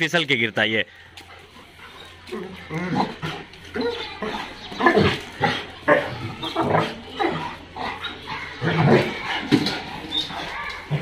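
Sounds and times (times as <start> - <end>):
dogs making play noises: 1.2 - 11.0.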